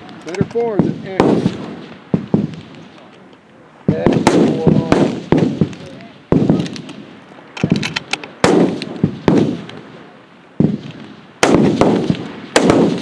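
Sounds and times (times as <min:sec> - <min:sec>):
rifle shots: 0:00.3 - 0:03.0, 0:03.9 - 0:09.9, 0:10.6 - 0:13.0.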